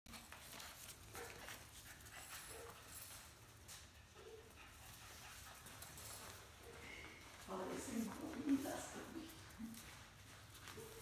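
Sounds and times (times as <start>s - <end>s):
paws clicking on hard floor: 0.1s - 11.0s.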